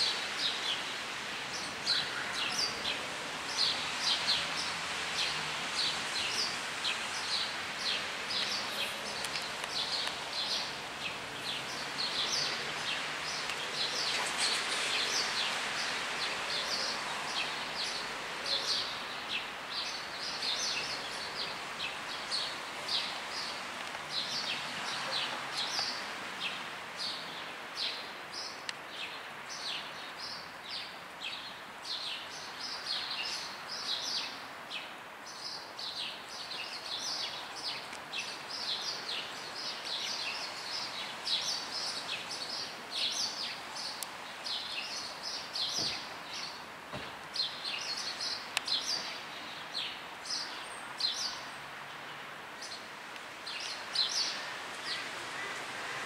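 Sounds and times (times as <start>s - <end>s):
songbirds chirping: 0.0s - 56.0s
steady background hiss: 0.0s - 56.0s.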